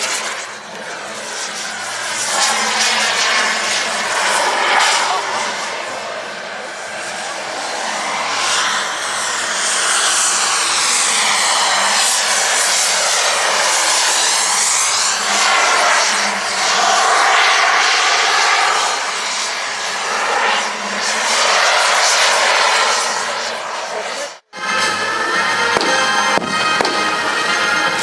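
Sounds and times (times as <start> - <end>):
model aircraft engines passing: 0.0 - 28.0.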